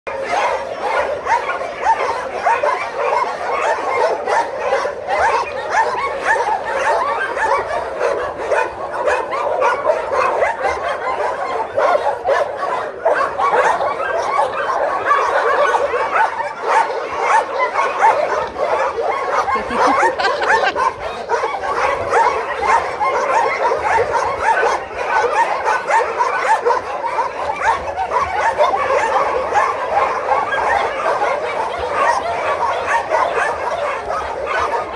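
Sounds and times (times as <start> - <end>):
many dogs barking and yipping: 0.1 - 34.9.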